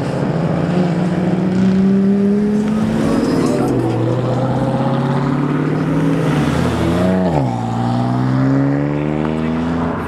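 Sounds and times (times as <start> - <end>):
car engines accelerating hard: 0.0 - 10.0.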